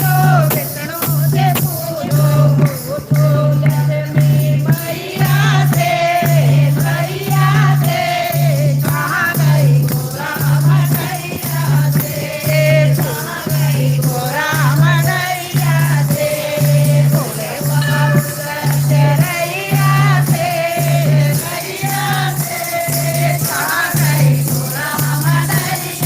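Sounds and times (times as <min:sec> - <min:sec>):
low drum beat: 0:00.0 - 0:21.6
jingling shaker: 0:00.0 - 0:26.0
voices singing devotional song: 0:00.0 - 0:26.0.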